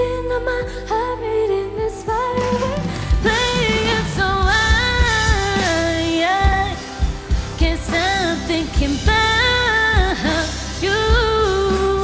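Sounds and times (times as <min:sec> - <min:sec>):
live band: 0:00.0 - 0:12.0
woman singing pop song: 0:00.0 - 0:12.0.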